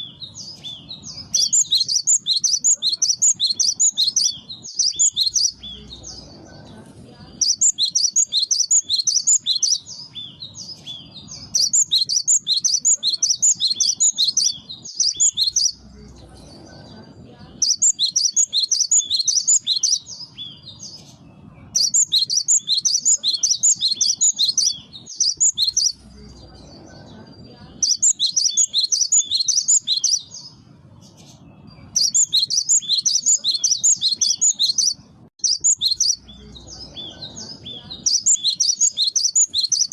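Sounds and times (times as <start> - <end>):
bird singing high-pitched notes: 0.0 - 6.2, 7.4 - 15.9, 17.6 - 30.6, 31.2 - 39.9.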